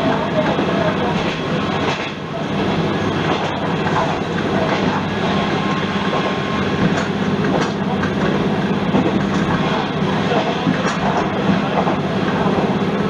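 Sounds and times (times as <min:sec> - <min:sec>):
diesel railcar engine droning: 0:00.0 - 0:13.0
train wheels on rails: 0:00.0 - 0:13.0.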